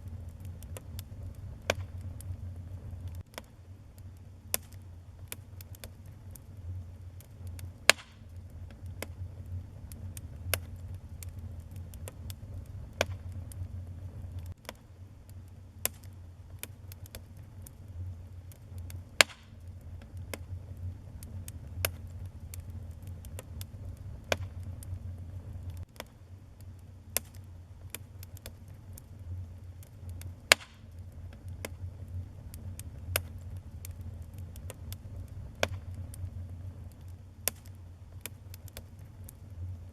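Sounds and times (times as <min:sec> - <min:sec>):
sharp fire pops: 0:00.0 - 0:39.8
fire rumbling and crackling: 0:00.0 - 0:39.9.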